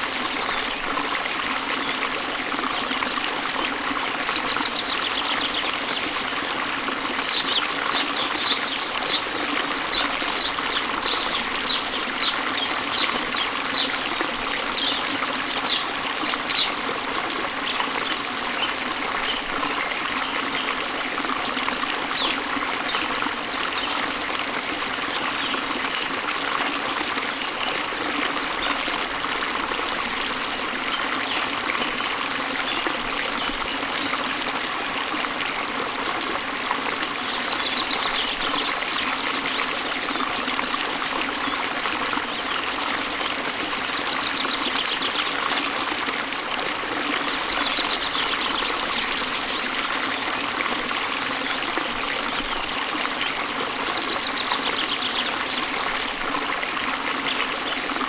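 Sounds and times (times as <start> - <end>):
waterfall water running: 0.0 - 58.0.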